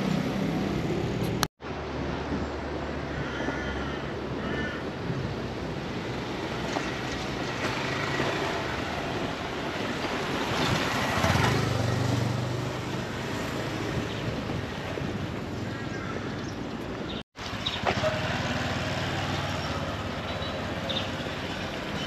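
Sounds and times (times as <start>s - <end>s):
traffic noise: 0.0s - 22.0s
vehicle engine hum: 0.0s - 22.0s.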